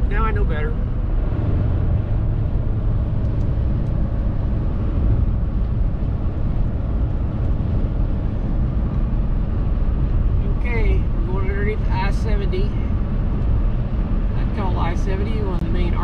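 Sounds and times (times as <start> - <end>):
vehicle road and engine rumble: 0.0 - 16.0.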